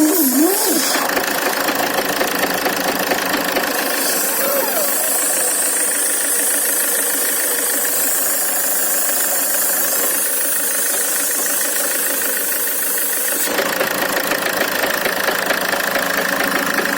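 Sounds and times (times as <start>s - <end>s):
diesel engine idling with knock: 0.1s - 16.9s.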